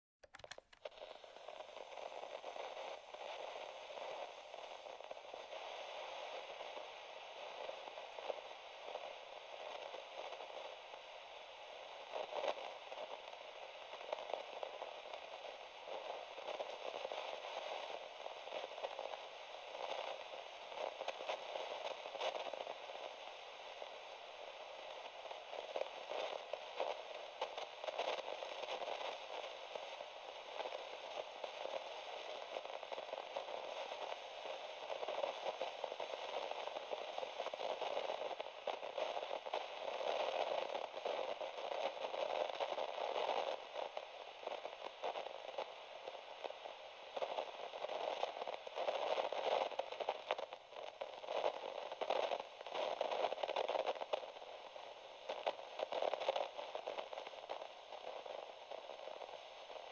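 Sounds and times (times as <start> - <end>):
crackling static hiss: 0.2 - 59.9.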